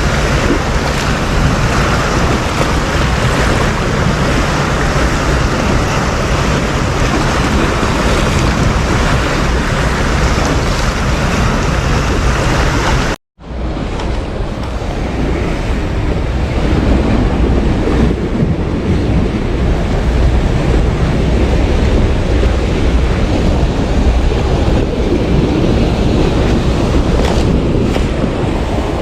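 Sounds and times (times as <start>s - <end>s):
heavy low rumble: 0.0s - 29.0s
sea waves washing: 0.0s - 29.0s
wind buffeting microphone: 0.0s - 29.0s.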